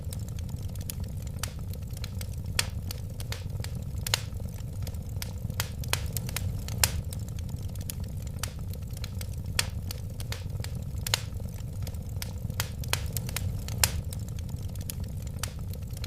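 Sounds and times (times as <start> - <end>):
fire crackling and popping: 0.0 - 16.0
wood fire rumbling: 0.0 - 16.0.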